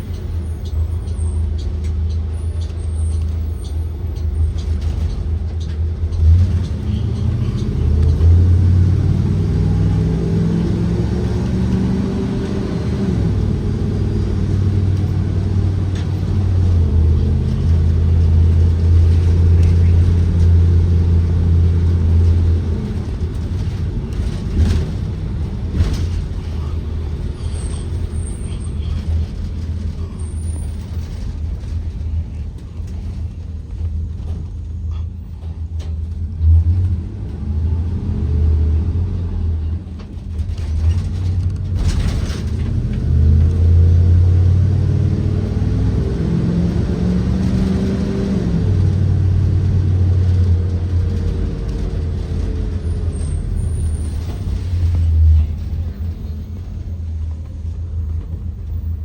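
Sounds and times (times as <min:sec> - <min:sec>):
rattles and knocks: 0:00.0 - 0:08.8, 0:13.3 - 0:37.0, 0:39.8 - 0:44.1, 0:46.8 - 0:58.7
bus engine running: 0:00.0 - 0:59.0.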